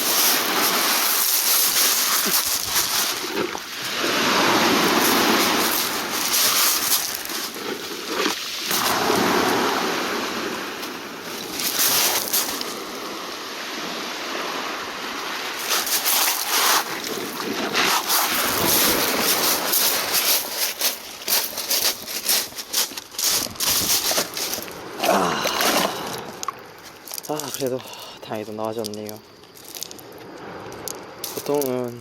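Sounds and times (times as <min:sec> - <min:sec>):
sea waves washing: 0:00.0 - 0:28.6.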